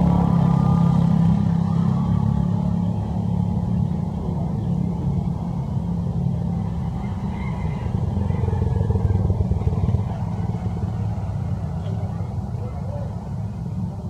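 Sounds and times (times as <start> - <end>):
motor engine rumble: 0.0 - 14.0.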